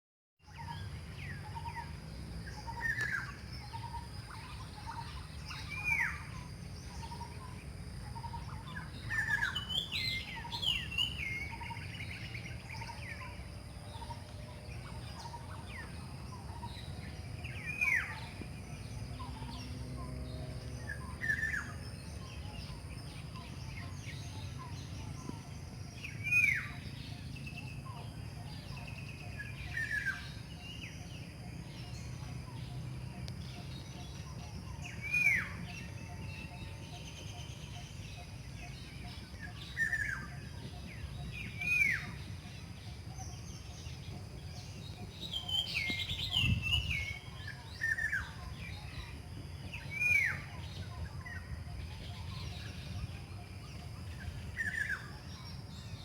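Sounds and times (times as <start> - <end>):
birds whistling calls: 0.5 - 56.0.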